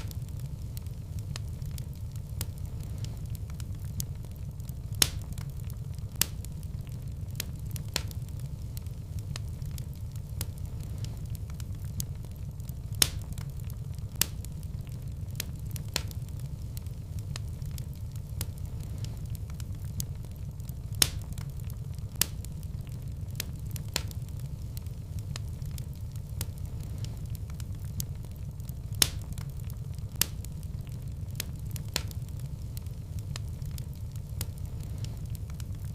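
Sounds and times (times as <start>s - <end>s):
fire crackling and popping: 0.0s - 35.9s
wood fire rumbling: 0.0s - 35.9s.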